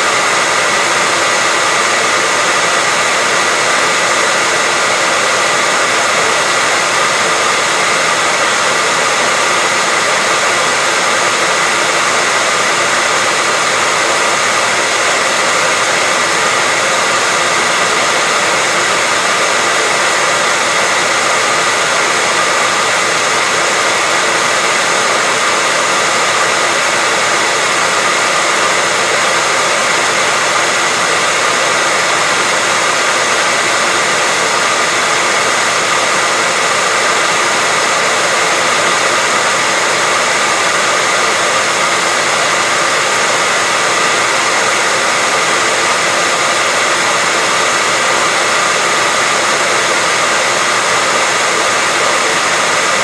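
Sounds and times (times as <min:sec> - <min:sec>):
hair dryer blowing: 0:00.0 - 0:53.0.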